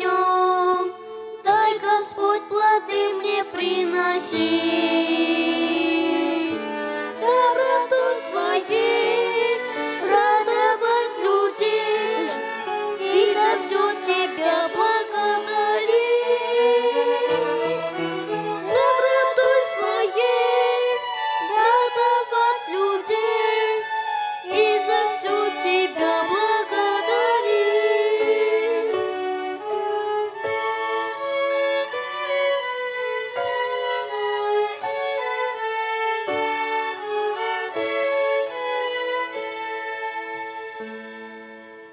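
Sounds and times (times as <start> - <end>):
violin ensemble playing hymn: 0.0 - 41.9.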